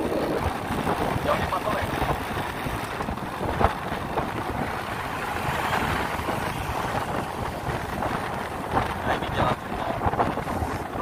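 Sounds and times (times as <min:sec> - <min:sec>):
scooter engine: 0:00.0 - 0:09.0
road traffic: 0:00.0 - 0:11.0
wind rushing over microphone: 0:00.0 - 0:11.0.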